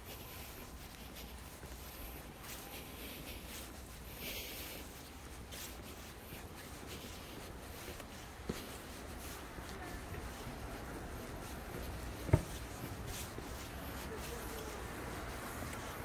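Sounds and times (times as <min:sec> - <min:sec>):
footsteps on paving: 0:00.0 - 0:16.0.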